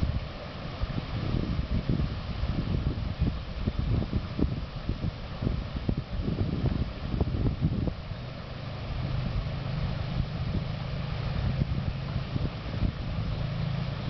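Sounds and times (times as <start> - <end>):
steady low hum: 0.0 - 14.0
waterfall rushing: 0.0 - 14.0
wind buffeting microphone: 0.0 - 14.0.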